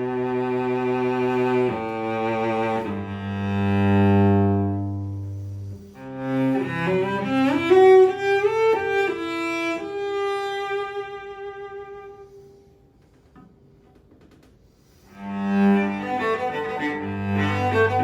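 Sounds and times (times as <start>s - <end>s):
bowed cello notes: 0.0s - 12.7s, 15.0s - 18.0s.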